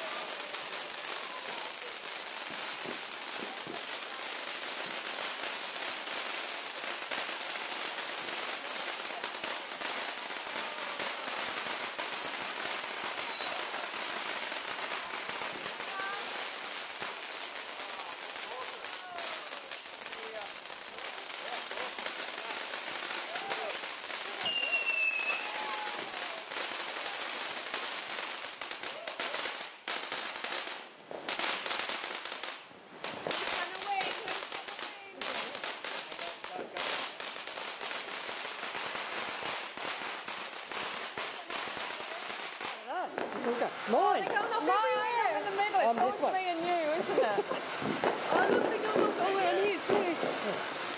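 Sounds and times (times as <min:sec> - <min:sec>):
fireworks hissing sparks: 0:00.0 - 0:50.9.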